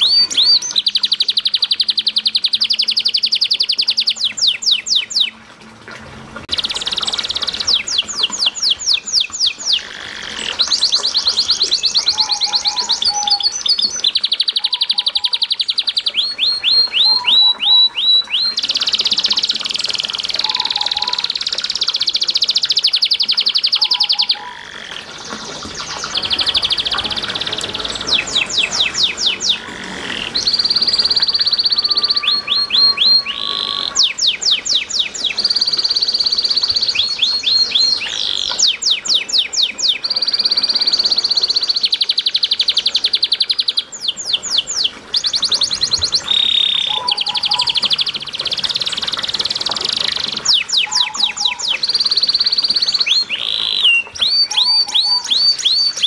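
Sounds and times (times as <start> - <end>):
canary singing trills: 0.0 - 5.4, 6.5 - 56.0
faint trickling water: 0.0 - 56.0.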